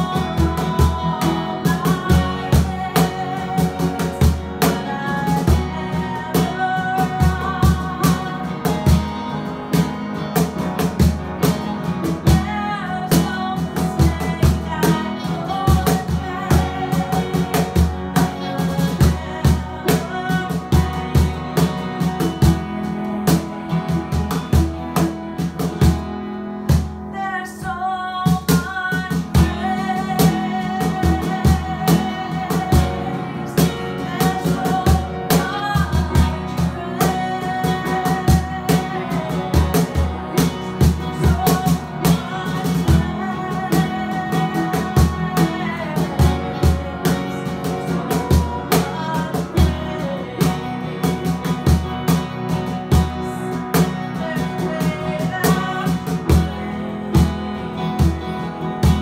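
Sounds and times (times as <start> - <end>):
acoustic guitar strumming: 0.0 - 59.0
cajon beat: 0.0 - 59.0
woman singing: 0.0 - 59.0.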